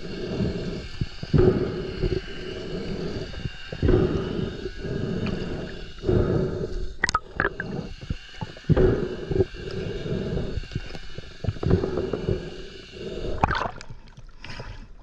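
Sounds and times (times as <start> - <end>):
underwater rumbling and gurgling: 0.0 - 15.0.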